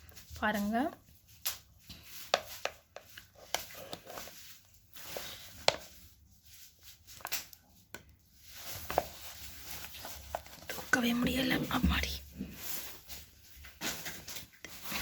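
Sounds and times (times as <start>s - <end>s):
packaging rustling: 1.2s - 15.0s.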